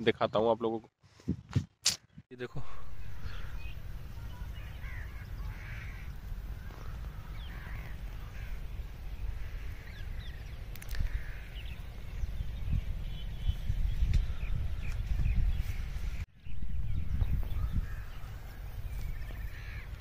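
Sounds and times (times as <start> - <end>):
birds calling: 2.4 - 20.0
low rumble on the microphone: 2.6 - 19.9.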